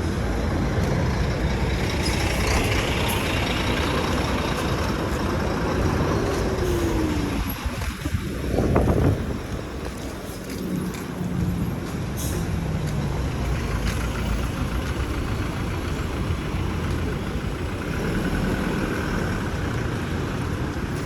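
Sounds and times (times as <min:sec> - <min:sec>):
large vehicle engine passing: 0:00.0 - 0:09.2, 0:12.0 - 0:21.0
road rumble: 0:00.0 - 0:21.0.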